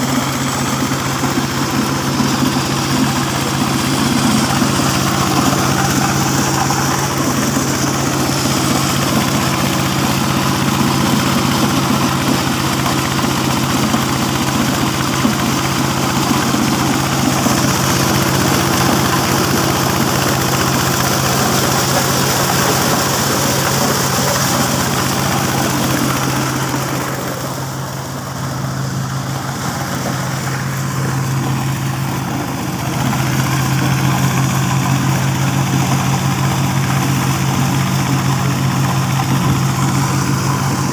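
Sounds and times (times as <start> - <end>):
corn kernels rattling into basins: 0.0 - 40.9
engine humming: 0.0 - 40.9
threshing drum clatter: 0.0 - 40.9.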